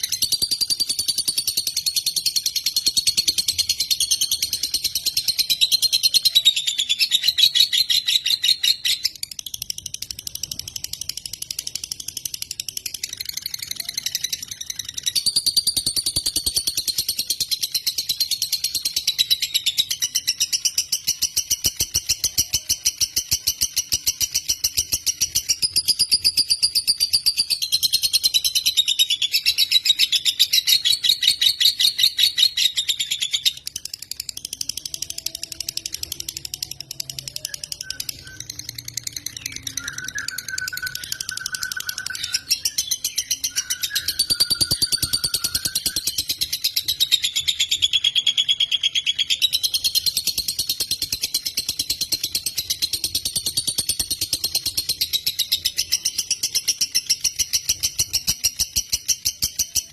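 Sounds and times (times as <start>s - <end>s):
lovebird chattering song: 0.0s - 59.9s.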